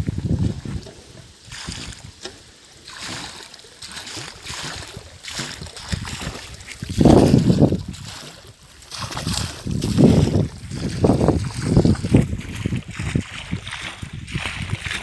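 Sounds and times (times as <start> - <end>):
water and air gushing from pipes: 0.0 - 15.0.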